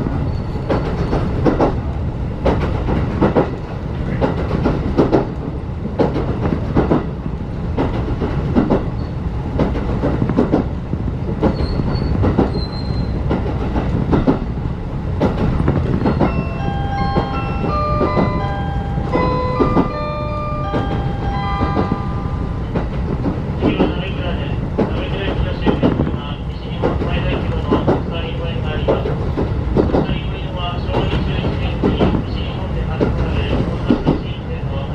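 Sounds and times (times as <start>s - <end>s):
train wheels rumbling: 0.0s - 34.9s.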